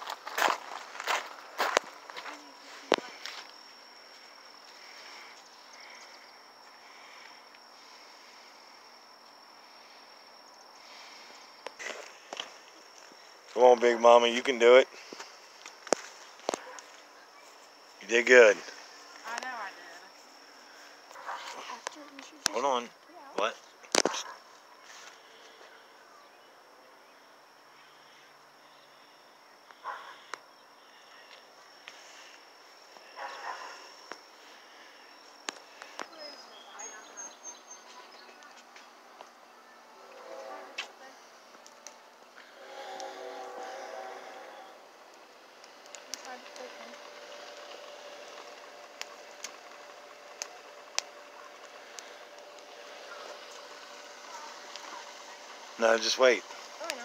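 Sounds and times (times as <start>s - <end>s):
insects trilling: 0.0s - 57.0s
soft insect chirps: 0.0s - 57.0s.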